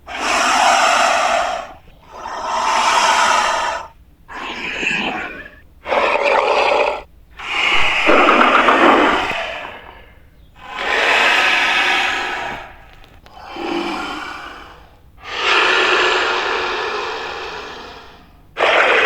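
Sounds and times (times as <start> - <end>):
breathy hissing creature calls: 0.0 - 19.0.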